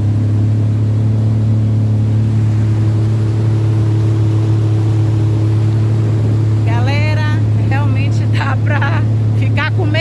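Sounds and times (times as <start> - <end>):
jet ski engine running: 0.0 - 10.0.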